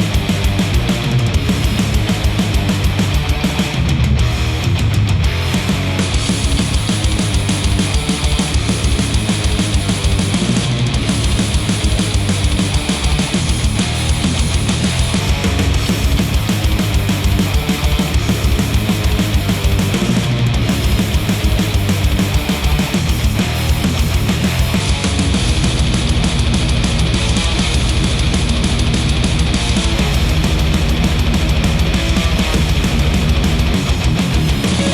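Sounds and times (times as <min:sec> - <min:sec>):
heavy rock music: 0:00.0 - 0:34.9.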